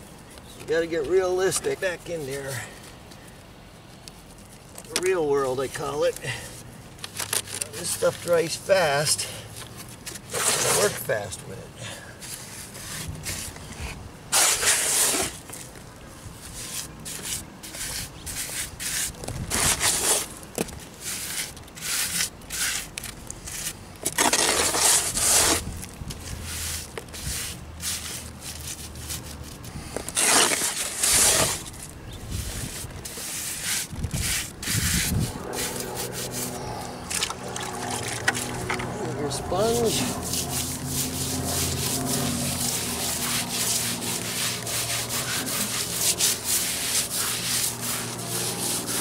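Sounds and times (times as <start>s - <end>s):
hand scraping cement on concrete: 0.6s - 3.0s, 7.3s - 11.4s, 12.0s - 49.0s.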